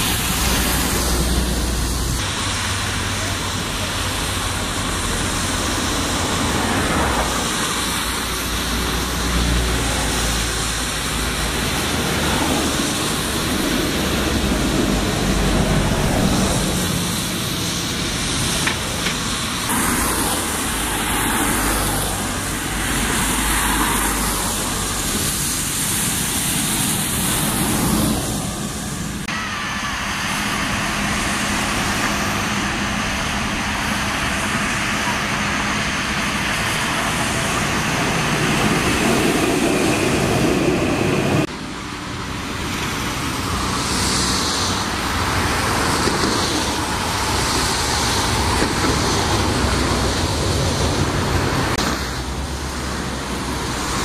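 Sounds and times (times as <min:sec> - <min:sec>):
car tyres on wet road: 0:00.0 - 0:54.0.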